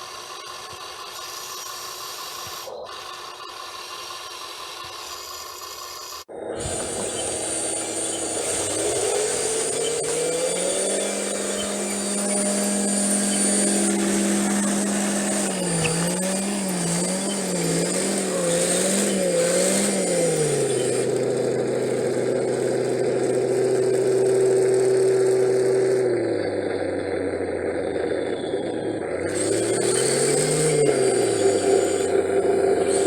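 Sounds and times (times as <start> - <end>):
toy excavator motor hum: 0.0 - 33.0.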